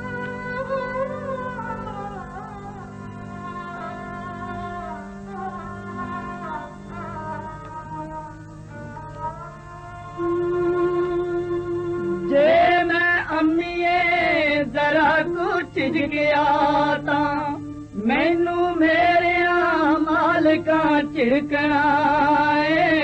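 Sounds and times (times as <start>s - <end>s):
woman singing folk song: 0.0s - 23.0s.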